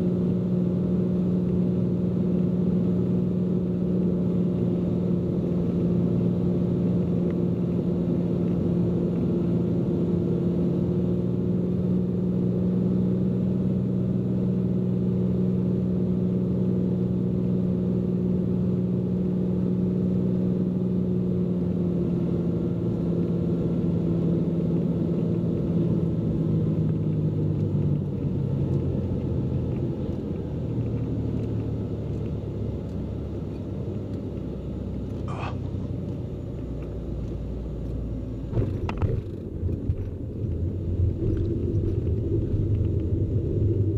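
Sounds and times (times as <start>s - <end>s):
aircraft engine and propeller droning: 0.0s - 43.9s.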